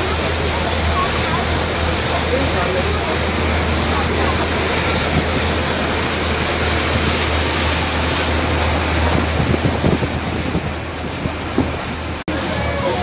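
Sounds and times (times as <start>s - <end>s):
boat engine droning: 0.0s - 13.0s
churning wake water: 0.0s - 13.0s
wind buffeting microphone: 0.6s - 13.0s.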